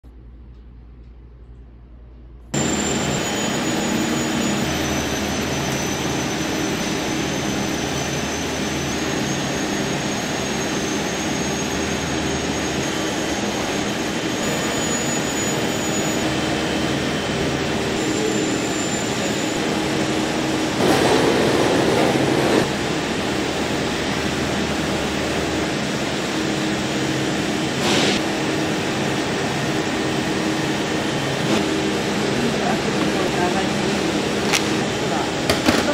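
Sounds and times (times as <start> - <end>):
machinery and ventilation rush: 0.0 - 35.9.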